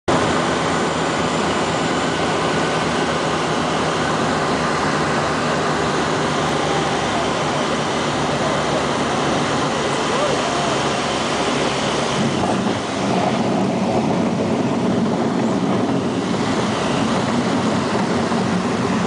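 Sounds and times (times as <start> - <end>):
turboprop engines droning: 0.1 - 19.0.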